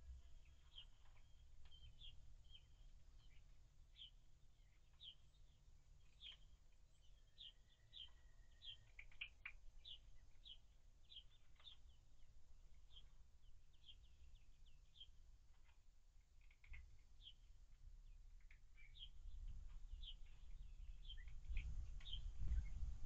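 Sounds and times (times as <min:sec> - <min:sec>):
faint bird chirping: 0:00.0 - 0:23.0
low steady rumble: 0:00.0 - 0:23.0.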